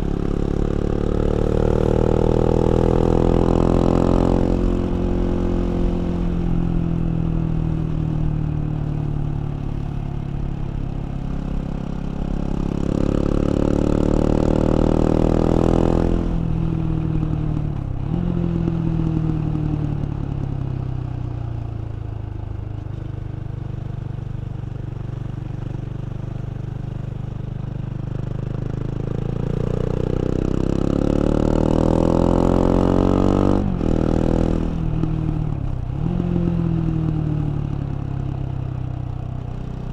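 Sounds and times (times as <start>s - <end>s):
motorcycle engine revving: 0.0s - 20.6s, 28.0s - 39.9s.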